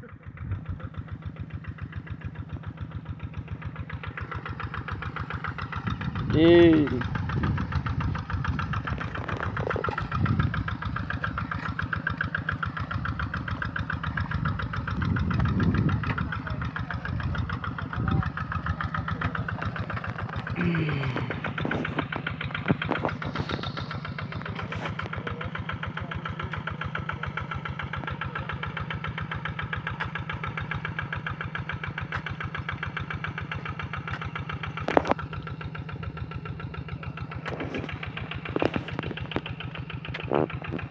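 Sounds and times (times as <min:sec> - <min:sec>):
tractor engine chugging: 0:00.0 - 0:40.9.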